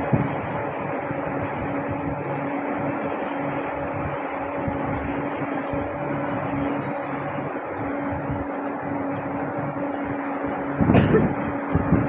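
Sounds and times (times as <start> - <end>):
speedboat engine running: 0.0 - 12.0
water washing along hull: 0.0 - 12.0.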